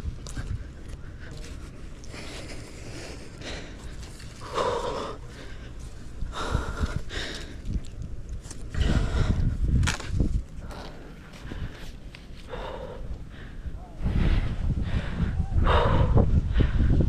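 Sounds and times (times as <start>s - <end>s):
wind rumble on microphone: 0.0s - 17.0s
person breathing hard: 0.3s - 7.9s, 8.7s - 9.7s, 10.6s - 17.0s.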